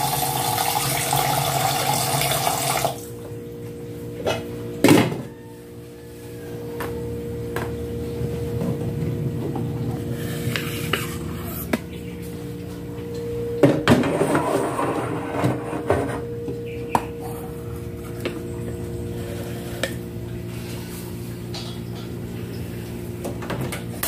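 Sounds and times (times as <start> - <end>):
steady low hum: 2.9 - 24.0.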